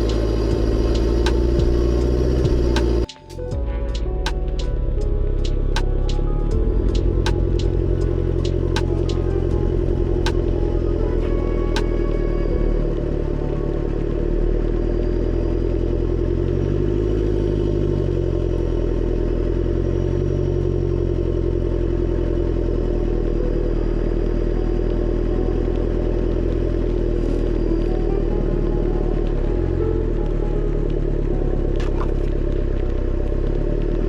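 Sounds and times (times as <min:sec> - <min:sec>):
vehicle engine running while driving: 0:00.0 - 0:03.1, 0:04.6 - 0:34.0.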